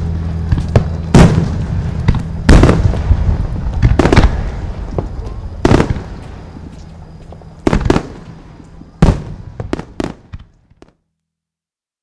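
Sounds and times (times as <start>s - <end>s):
fireworks bursting: 0.0s - 11.0s
fireworks rumble: 0.0s - 11.0s.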